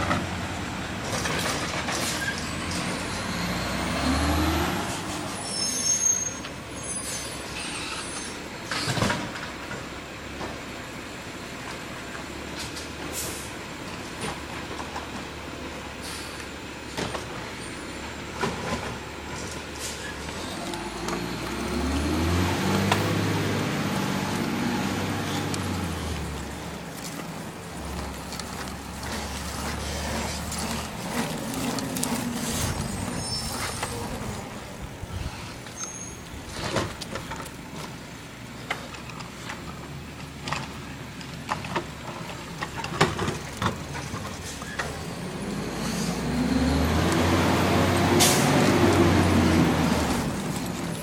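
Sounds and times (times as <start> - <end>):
garbage truck engine revving: 0.0 - 51.0.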